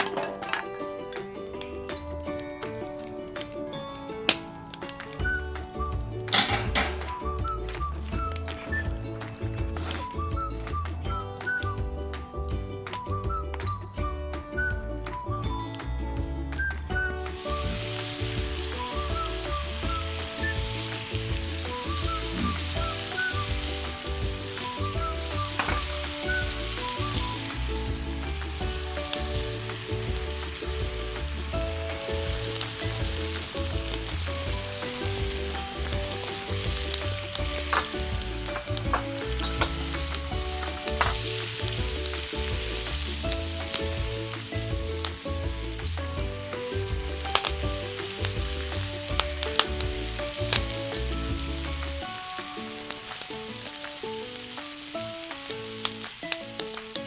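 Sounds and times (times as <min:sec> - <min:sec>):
background music with bass: 0:00.0 - 0:53.8
food sizzling in a pan: 0:04.3 - 0:10.3, 0:17.0 - 0:57.0.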